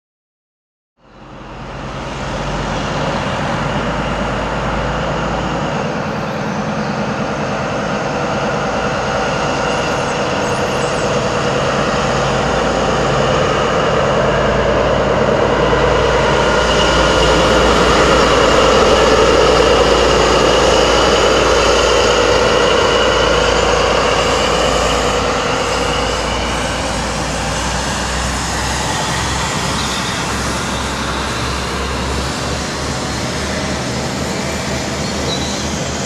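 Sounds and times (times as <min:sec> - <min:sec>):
diesel train engine running: 0:01.0 - 0:36.0
rail noise from wheels: 0:01.0 - 0:36.0.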